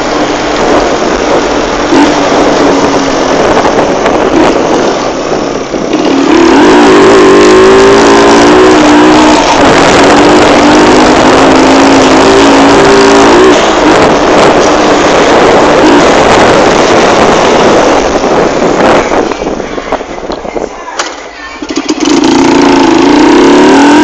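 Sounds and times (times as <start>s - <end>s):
motorcycle engine running: 0.0s - 20.5s, 21.5s - 24.0s
wind rushing over microphone: 0.0s - 24.0s.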